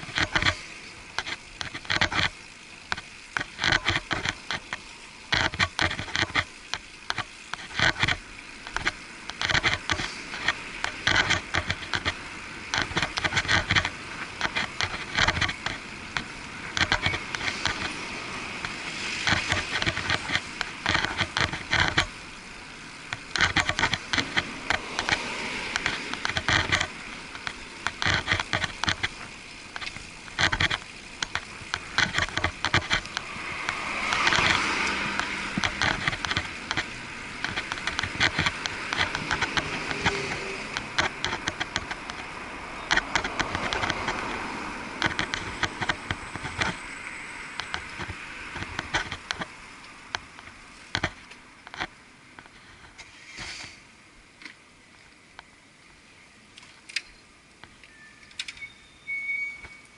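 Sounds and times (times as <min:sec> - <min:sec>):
bicycle knocks and rattles: 0:00.0 - 0:53.6
muffled street and traffic noise: 0:00.0 - 0:59.9.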